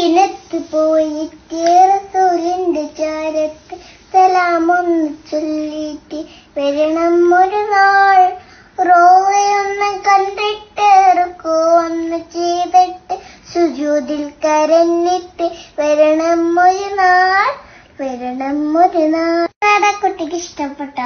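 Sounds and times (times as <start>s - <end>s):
girl singing: 0.0s - 21.0s.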